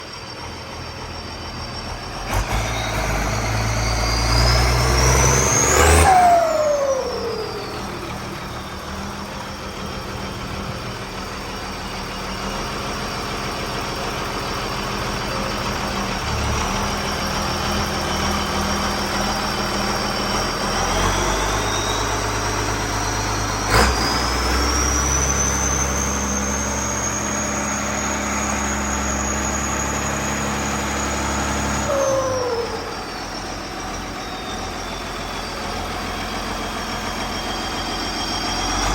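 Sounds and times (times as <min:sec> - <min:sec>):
high turbo whine: 0:00.0 - 0:38.9
tractor diesel engine running: 0:00.0 - 0:38.9.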